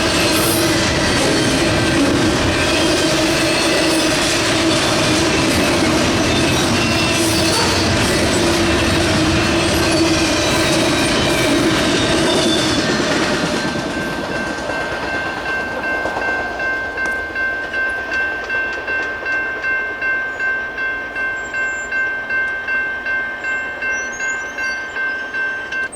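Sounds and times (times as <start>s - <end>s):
freight train wheels clattering: 0.0s - 25.9s
railroad crossing bell ringing: 0.0s - 25.9s.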